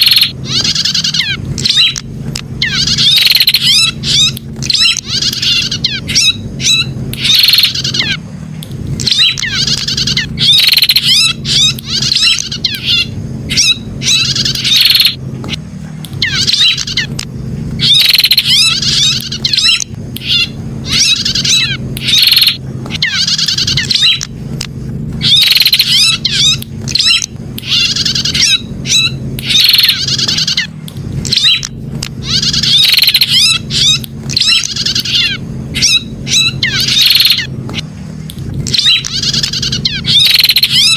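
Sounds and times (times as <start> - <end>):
bird twittering song: 0.0 - 40.9
steady low hum: 0.0 - 40.9.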